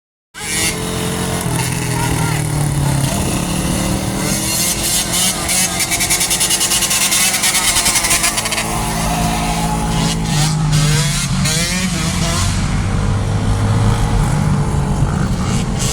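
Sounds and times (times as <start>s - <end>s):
dirt bike engine running: 0.4s - 15.9s.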